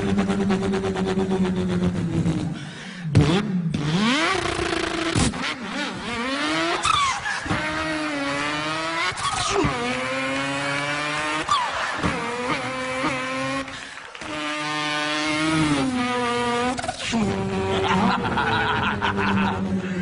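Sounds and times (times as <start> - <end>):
man imitating race car engine: 0.0 - 20.0.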